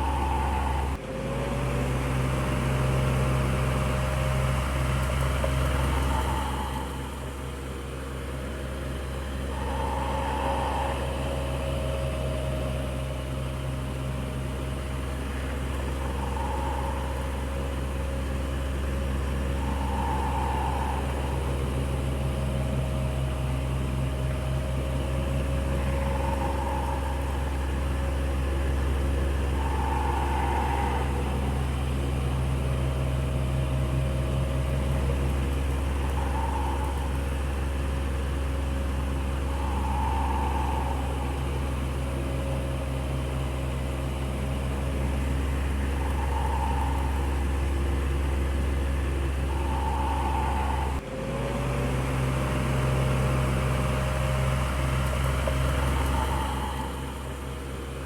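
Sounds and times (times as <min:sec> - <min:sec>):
electric fan running: 0:00.0 - 0:51.0.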